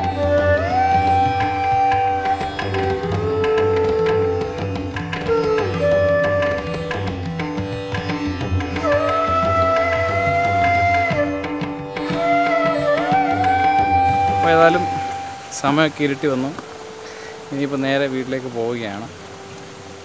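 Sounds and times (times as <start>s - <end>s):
sliding held melody notes: 0.0s - 20.0s.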